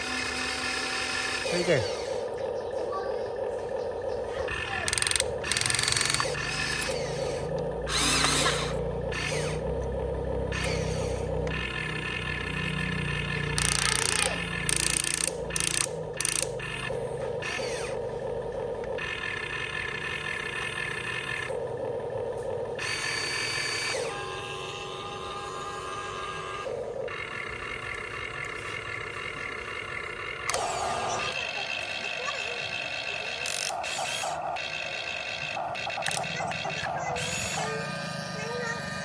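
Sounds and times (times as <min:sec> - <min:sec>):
toy excavator motors whirring: 0:00.0 - 0:39.0.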